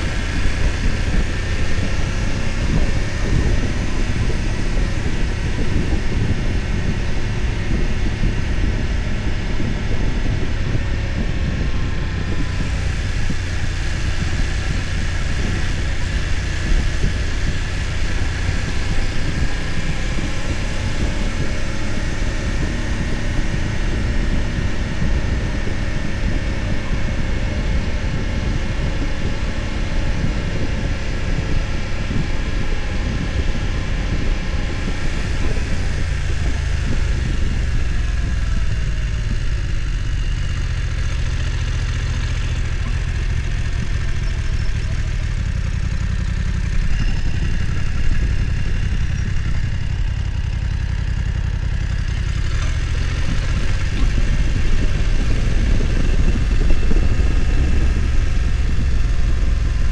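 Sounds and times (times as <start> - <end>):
motorcycle engine at low revs: 0.0 - 59.9
road and wind noise: 0.0 - 59.9.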